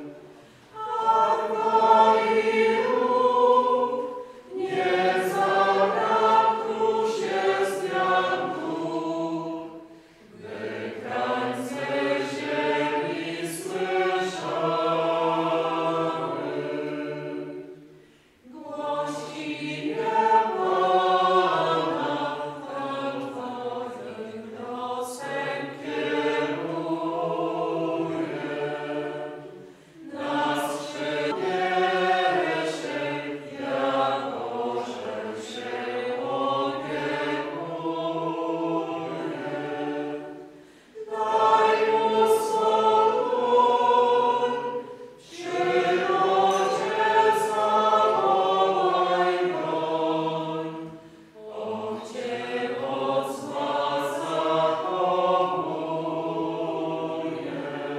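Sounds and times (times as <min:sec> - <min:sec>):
group singing a hymn: 0:00.0 - 0:57.9.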